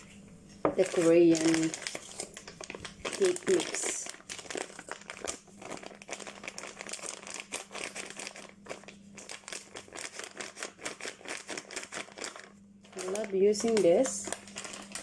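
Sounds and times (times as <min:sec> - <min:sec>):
plastic packet crinkling: 0:00.8 - 0:15.0.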